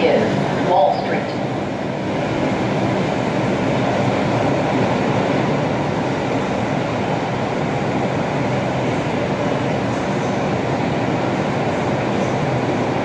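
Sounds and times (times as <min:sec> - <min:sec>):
subway train hum and hiss: 0:00.0 - 0:13.0.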